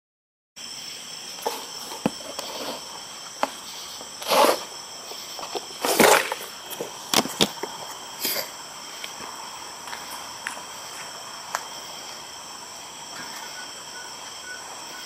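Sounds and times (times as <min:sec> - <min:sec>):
insect chorus: 0:00.6 - 0:15.0.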